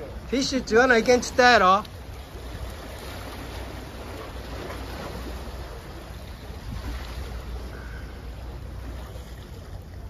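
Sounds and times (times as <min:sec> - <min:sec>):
sea washing against breakwater: 0:00.0 - 0:10.0
wind rumble on microphone: 0:01.3 - 0:10.0.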